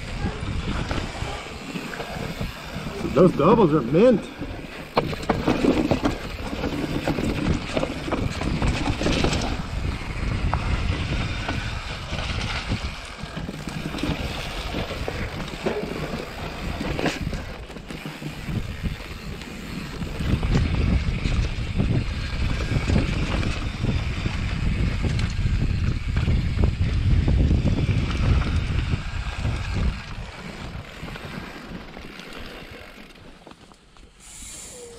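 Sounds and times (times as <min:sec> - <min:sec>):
wind buffeting microphone: 0:00.0 - 0:33.0
bike tyres rumbling over rocks: 0:00.0 - 0:34.0
bike knocking and rattling: 0:00.0 - 0:34.9.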